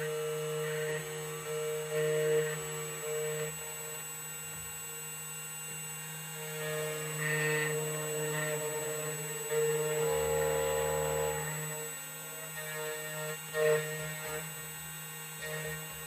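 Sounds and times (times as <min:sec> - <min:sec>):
key cutting machine motor whine: 0:00.0 - 0:16.0.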